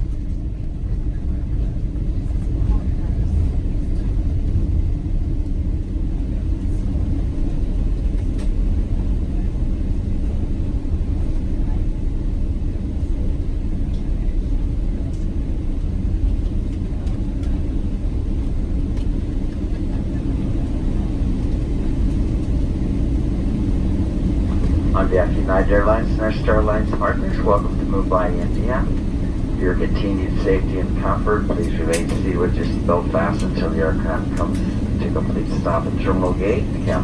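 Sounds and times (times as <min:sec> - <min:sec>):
aircraft cabin rumble: 0:00.0 - 0:37.0.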